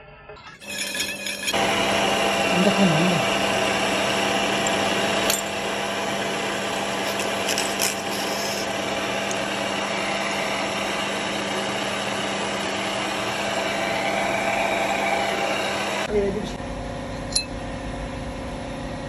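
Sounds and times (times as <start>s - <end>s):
milling machine drone: 0.0s - 19.0s.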